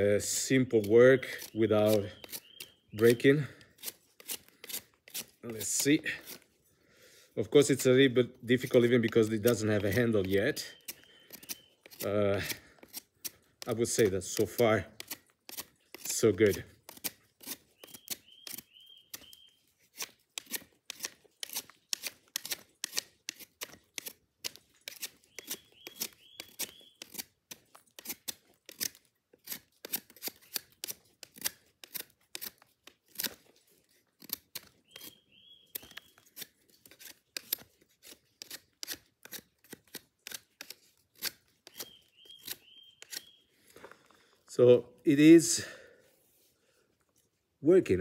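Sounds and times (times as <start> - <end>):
knife scraping wood: 0.0 - 6.7, 8.5 - 44.3.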